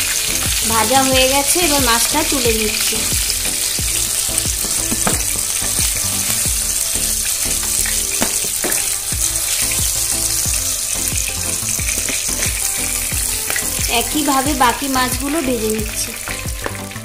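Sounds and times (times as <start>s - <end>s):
background music with beat: 0.0s - 17.0s
oil sizzling in a frying pan: 0.0s - 17.0s.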